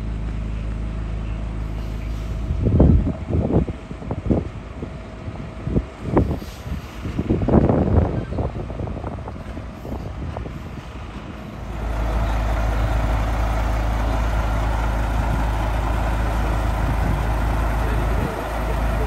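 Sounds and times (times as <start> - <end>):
road noise: 0.0 - 19.0
vehicle engine rumble: 0.0 - 19.0.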